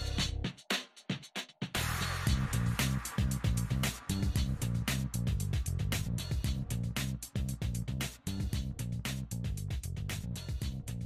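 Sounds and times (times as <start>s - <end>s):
music with fast beat and bass: 0.0s - 11.0s.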